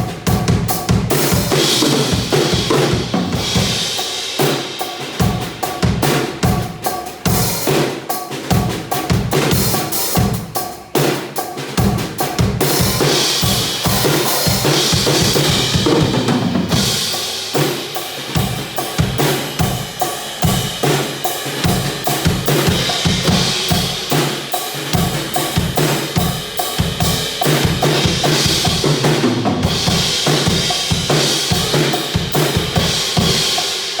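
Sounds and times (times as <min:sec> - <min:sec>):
bass drum and snare beat: 0:00.0 - 0:34.0.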